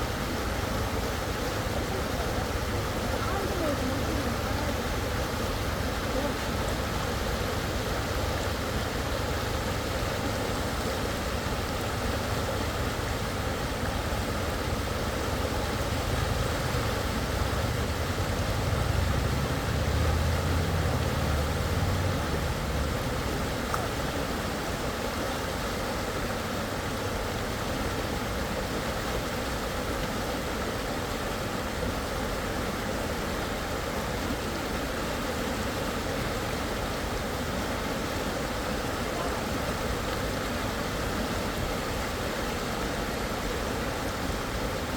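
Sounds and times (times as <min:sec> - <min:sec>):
fast stream water rushing: 0:00.0 - 0:44.9.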